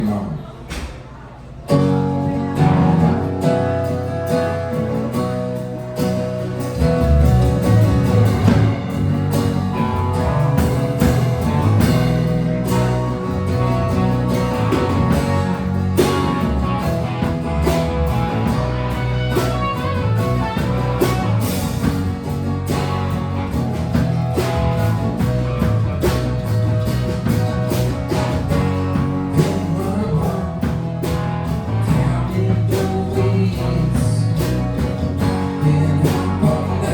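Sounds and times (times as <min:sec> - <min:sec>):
guitar: 0:00.0 - 0:36.9
bass guitar: 0:01.6 - 0:36.9
steady drum beat: 0:02.6 - 0:36.9.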